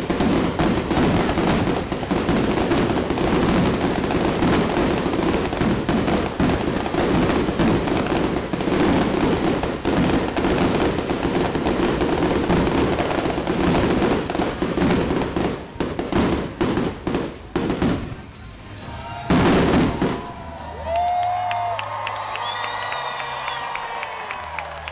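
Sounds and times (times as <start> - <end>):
fireworks bangs and crackle: 0.0 - 24.9.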